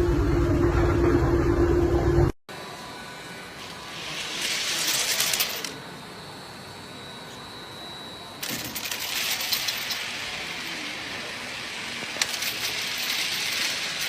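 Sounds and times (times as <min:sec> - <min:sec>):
hum with high tone: 0:00.0 - 0:14.0.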